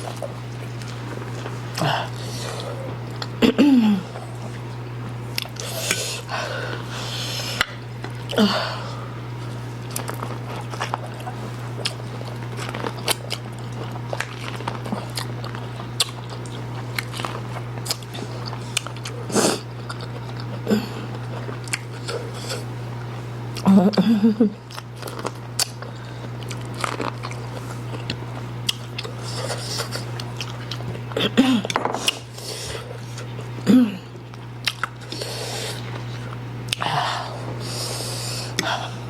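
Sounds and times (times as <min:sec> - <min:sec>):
people chewing noodles: 0:00.0 - 0:39.0
steady low hum: 0:00.0 - 0:39.0.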